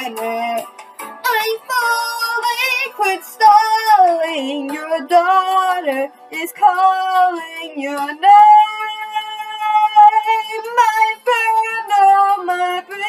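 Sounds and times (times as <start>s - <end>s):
karaoke backing track: 0.0s - 13.0s
woman singing a ballad: 0.0s - 13.0s.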